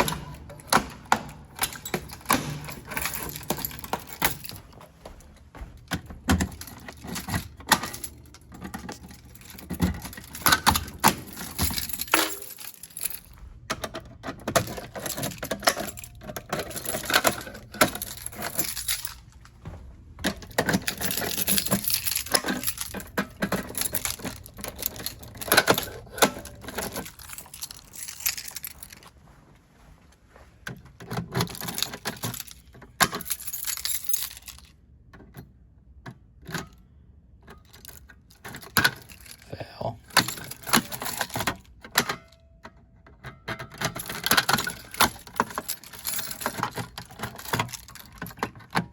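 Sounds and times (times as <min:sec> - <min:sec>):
keys jangling: 0:00.0 - 0:29.2, 0:31.0 - 0:35.3, 0:36.4 - 0:48.9
clicks and clacks of handling: 0:00.0 - 0:29.3, 0:30.6 - 0:48.9.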